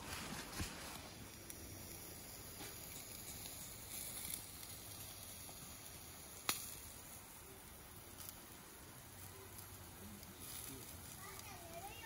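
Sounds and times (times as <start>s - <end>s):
sharp crack of fire: 0.0s - 12.0s
wood fire hissing and crackling: 0.0s - 12.0s.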